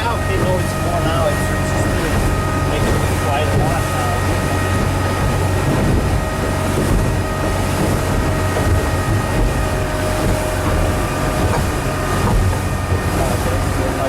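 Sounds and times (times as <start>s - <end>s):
motorboat engine running: 0.0s - 14.0s.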